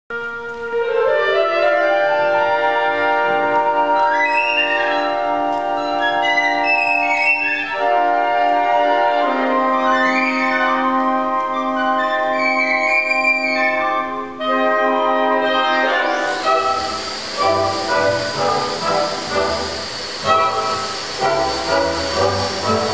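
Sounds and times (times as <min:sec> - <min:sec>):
wind band playing sustained chords: 0:00.1 - 0:12.5, 0:13.9 - 0:22.9.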